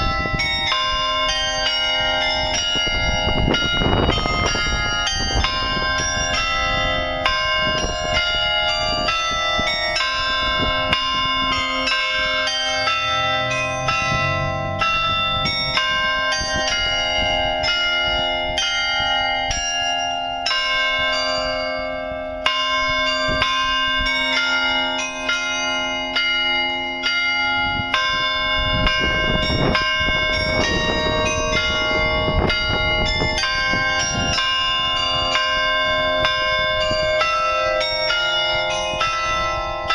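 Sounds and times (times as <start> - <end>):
carillon bells playing a tune: 0.0 - 39.9.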